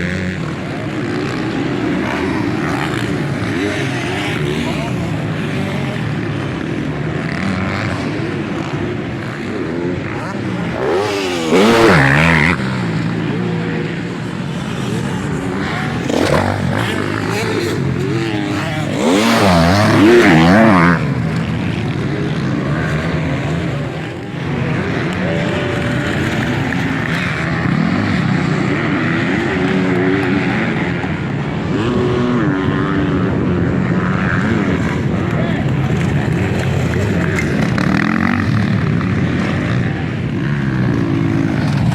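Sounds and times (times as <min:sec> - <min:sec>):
motocross bikes revving: 0:00.0 - 0:41.9
motorbikes passing loudly: 0:00.0 - 0:41.9.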